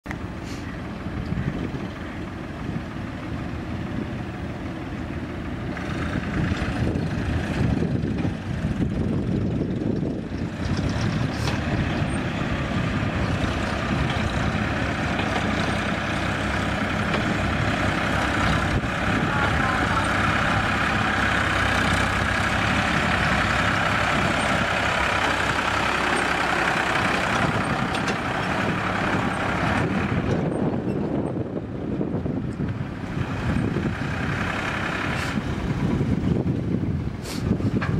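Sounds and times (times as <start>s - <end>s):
diesel engines running: 0.1s - 37.9s.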